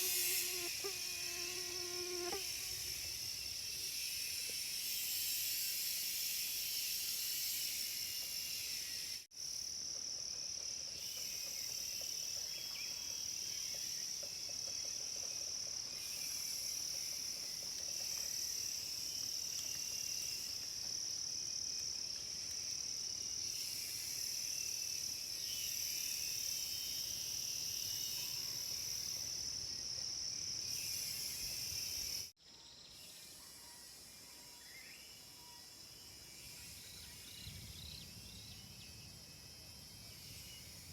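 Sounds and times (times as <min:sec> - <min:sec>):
cicadas droning: 0:00.0 - 0:40.9.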